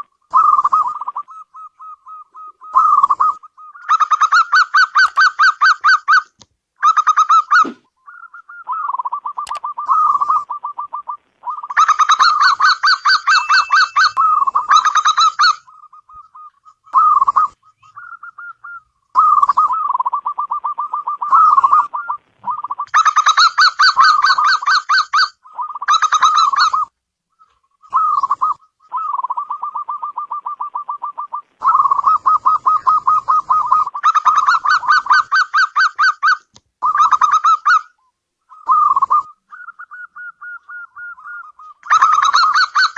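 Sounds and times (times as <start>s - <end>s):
dove cooing: 0.0s - 6.2s, 6.8s - 42.9s.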